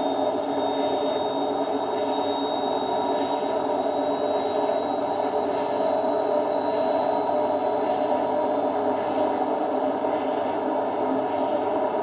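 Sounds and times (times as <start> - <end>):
thin high whine: 0.0 - 12.0
washing machine running: 0.0 - 12.0.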